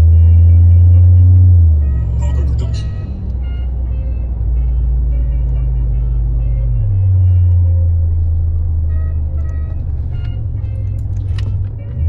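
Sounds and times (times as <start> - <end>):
bass-heavy music on car stereo: 0.0 - 12.0
car road noise: 0.0 - 12.0.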